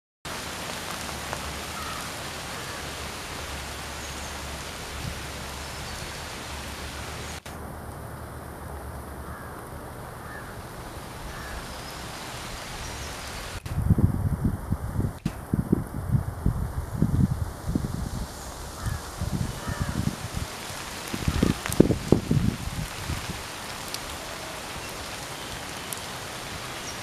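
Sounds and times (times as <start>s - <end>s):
rain on foliage: 0.3s - 27.0s.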